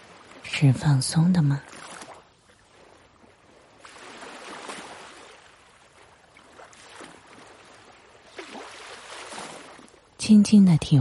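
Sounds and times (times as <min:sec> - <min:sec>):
ocean waves washing: 0:00.0 - 0:11.0.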